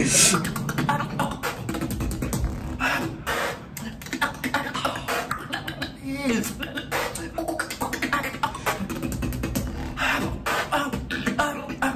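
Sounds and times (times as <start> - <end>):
beatboxing: 0.0 - 11.9.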